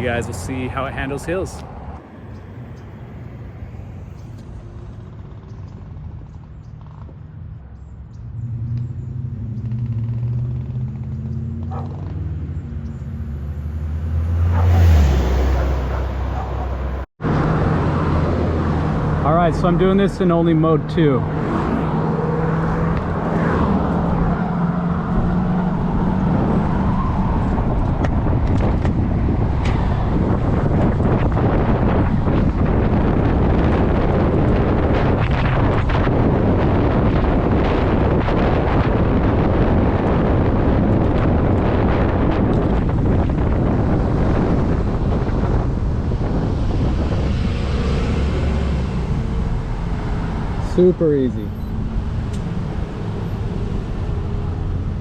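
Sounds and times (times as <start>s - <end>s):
wind rushing over microphone: 0.0s - 7.3s, 8.4s - 55.0s
road noise: 0.0s - 55.0s.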